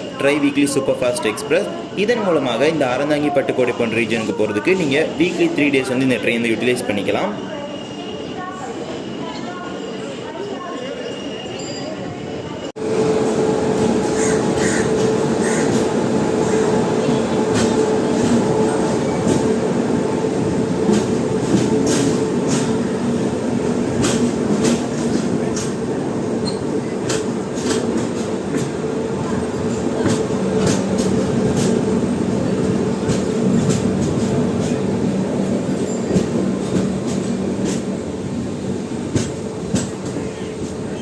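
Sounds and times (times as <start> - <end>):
train rumbling and humming: 0.0 - 41.0.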